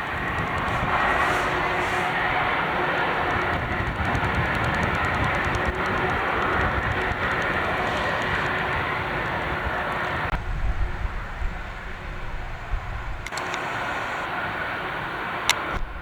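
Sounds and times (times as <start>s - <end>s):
faint steady whine: 0.0s - 16.0s
jet engine noise: 0.0s - 16.0s
wind buffeting microphone: 0.0s - 16.0s.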